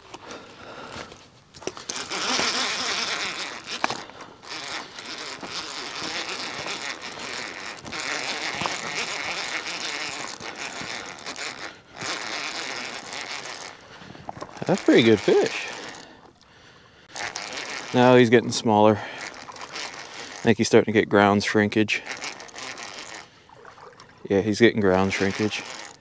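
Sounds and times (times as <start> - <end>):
fishing reel cranking: 1.6 - 26.0.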